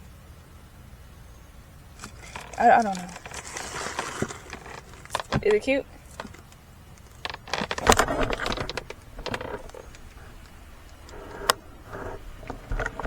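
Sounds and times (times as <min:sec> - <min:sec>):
rustling and rattling of loose pieces: 0:02.0 - 0:13.0.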